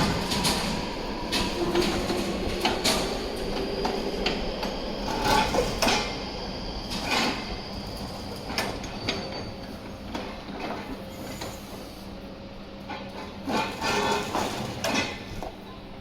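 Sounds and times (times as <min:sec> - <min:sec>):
train knocks and rattles: 0:00.0 - 0:16.0
train rumble: 0:00.0 - 0:16.0.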